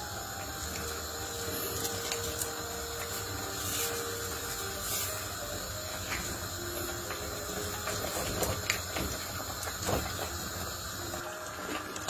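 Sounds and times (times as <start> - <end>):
boiling water bubbling: 0.0 - 12.0.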